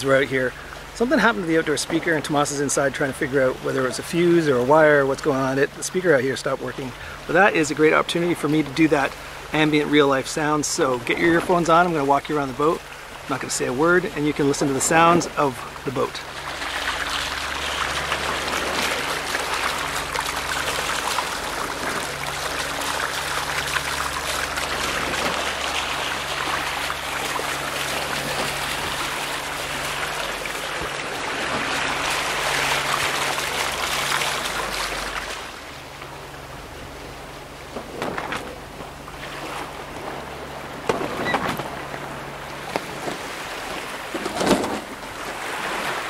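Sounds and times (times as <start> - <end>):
low steady hum: 0.0 - 46.0
water rushing along hulls: 0.0 - 46.0.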